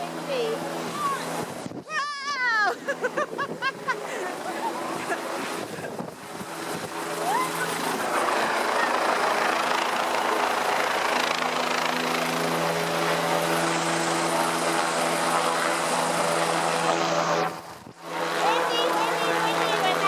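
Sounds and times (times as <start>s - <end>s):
helicopter engine drone: 0.0s - 20.0s
rotor wash rushing: 0.0s - 20.0s.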